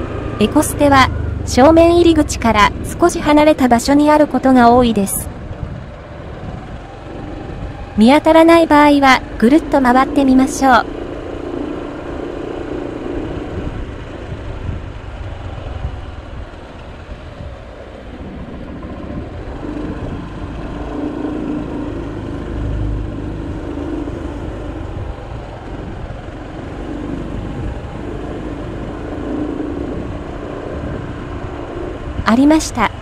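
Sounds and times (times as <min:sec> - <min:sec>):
wind on microphone: 0:00.0 - 0:09.4, 0:12.8 - 0:33.0
motor scooter engine hum: 0:00.0 - 0:33.0.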